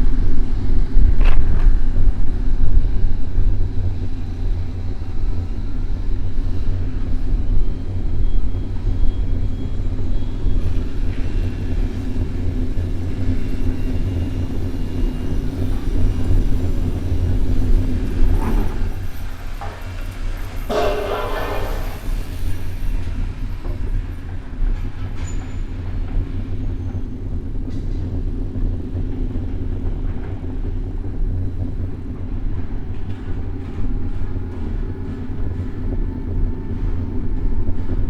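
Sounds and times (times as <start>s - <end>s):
city traffic rumble: 0.0s - 38.0s.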